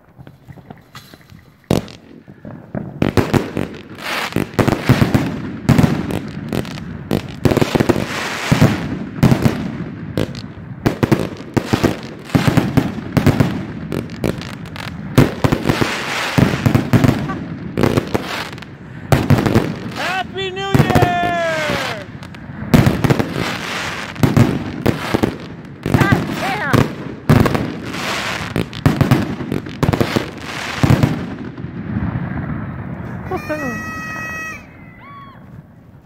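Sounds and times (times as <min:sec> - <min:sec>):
fireworks launch thumps and bangs: 0:00.0 - 0:32.6.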